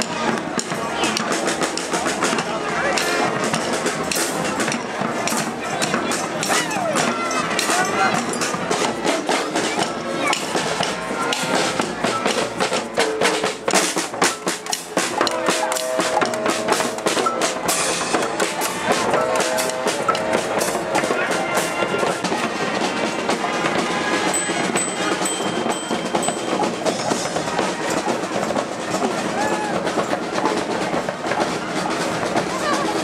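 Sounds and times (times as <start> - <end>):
horns holding notes: 0.0 - 33.0
snare and bass drum beats: 0.0 - 33.0.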